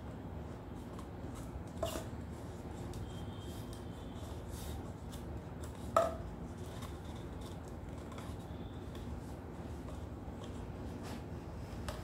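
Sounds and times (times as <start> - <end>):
steady low background noise: 0.0 - 12.0
paper handling sounds: 0.7 - 12.0.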